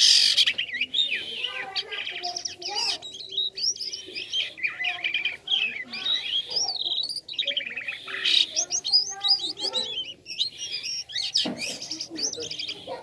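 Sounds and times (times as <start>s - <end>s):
starling singing: 0.0s - 13.0s.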